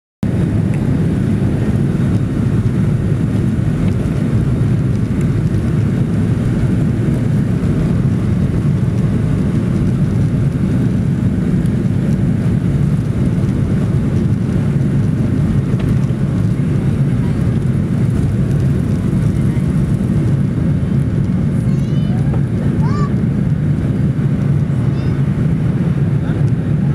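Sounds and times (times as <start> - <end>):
jet engines rumbling: 0.2 - 26.9.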